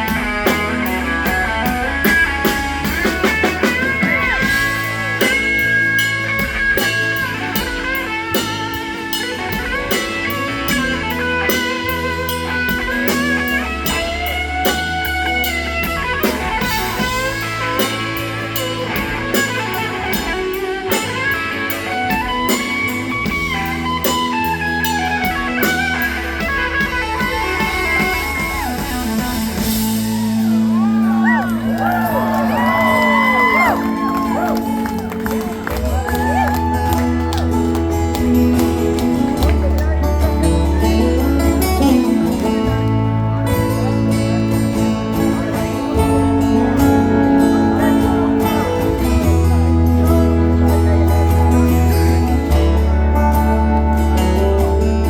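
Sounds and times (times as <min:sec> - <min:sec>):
lead guitar melody: 0:00.0 - 0:55.0
live band playing blues-rock: 0:00.0 - 0:55.0.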